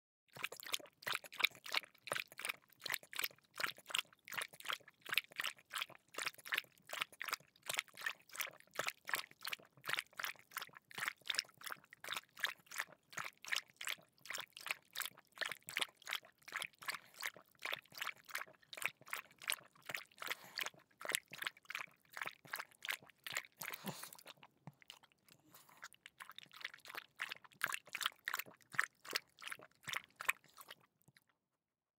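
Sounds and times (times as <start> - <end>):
dog lapping water: 0.3 - 31.3.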